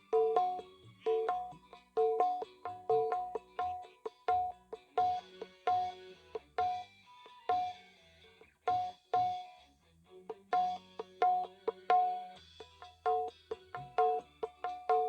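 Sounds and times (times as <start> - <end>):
hand drums through a pa system: 0.0 - 6.9, 7.5 - 7.8, 8.7 - 9.5, 10.3 - 15.0.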